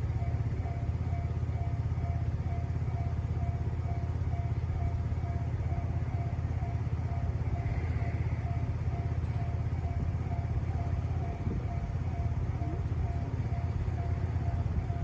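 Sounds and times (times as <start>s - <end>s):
heavy low rumble: 0.0s - 15.0s
level crossing alarm ringing: 0.0s - 15.0s.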